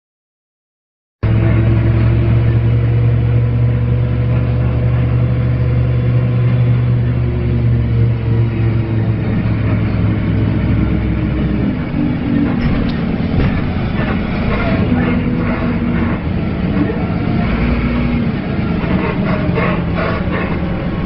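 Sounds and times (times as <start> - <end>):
bus engine groaning: 1.2 - 21.0.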